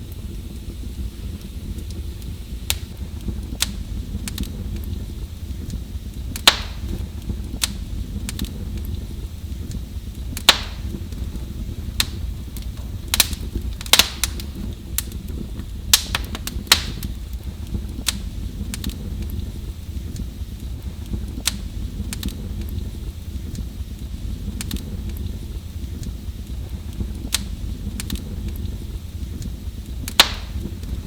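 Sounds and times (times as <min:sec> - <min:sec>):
fire low rumble: 0:00.0 - 0:31.0
wood fire crackling and popping: 0:00.0 - 0:31.0.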